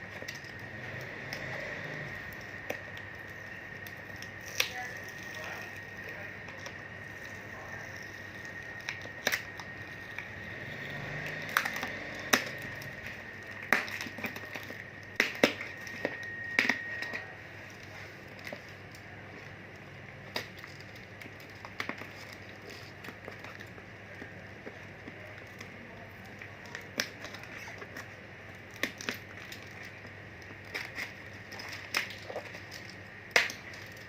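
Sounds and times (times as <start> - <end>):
faint high whine: 0.0 - 34.0.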